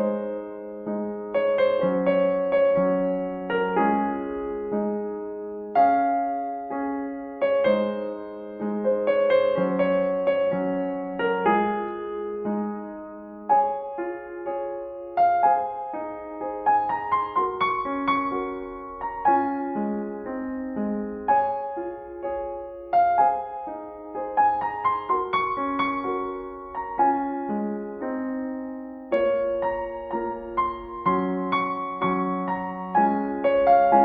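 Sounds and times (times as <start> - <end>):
slow solo piano: 0.0 - 34.0.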